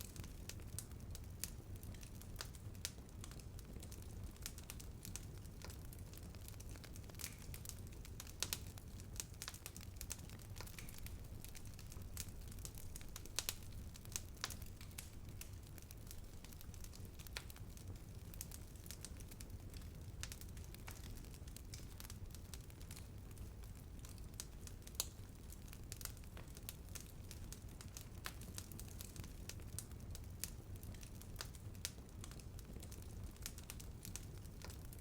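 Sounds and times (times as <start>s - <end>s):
low rumble of flames: 0.0s - 35.0s
wood fire crackling: 0.0s - 35.0s.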